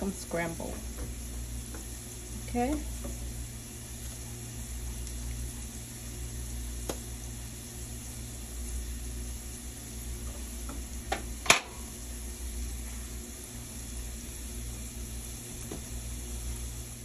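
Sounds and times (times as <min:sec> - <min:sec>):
eggs sizzling in a frying pan: 0:00.0 - 0:17.0
steady low hum: 0:00.0 - 0:17.0.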